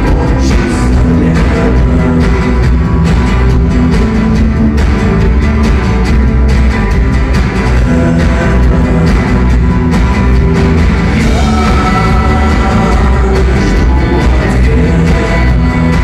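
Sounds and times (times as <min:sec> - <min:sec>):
heavy bass: 0:00.0 - 0:16.0
rock band playing instrumental: 0:00.0 - 0:16.0
steady drum beat: 0:00.0 - 0:16.0.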